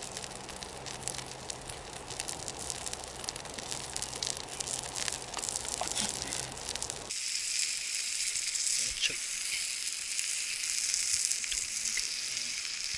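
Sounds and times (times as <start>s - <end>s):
campfire crackling and popping: 0.0s - 12.9s.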